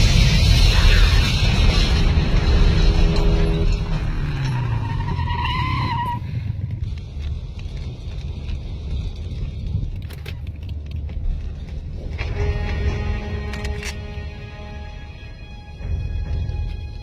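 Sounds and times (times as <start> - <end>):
high engine whine: 0.0 - 17.0
vehicle engine rumble: 0.0 - 17.0.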